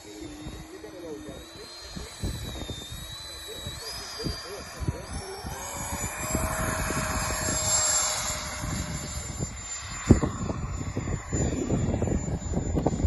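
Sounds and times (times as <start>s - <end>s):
electric ducted fan whining: 0.0s - 13.0s
wind buffeting microphone: 0.0s - 13.0s.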